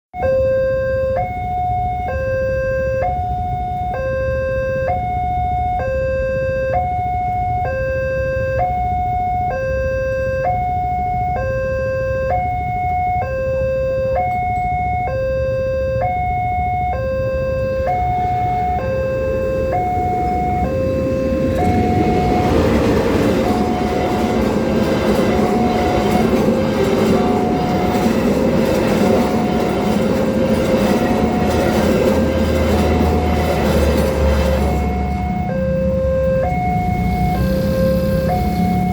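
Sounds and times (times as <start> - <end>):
two-tone crossing alarm: 0.1 - 38.9
approaching train: 3.0 - 38.9.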